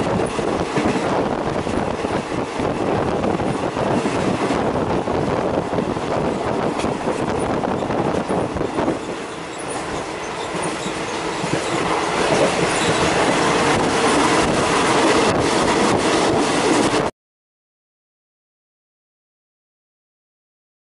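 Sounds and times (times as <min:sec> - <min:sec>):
train wheels rumbling on rail: 0:00.0 - 0:17.1.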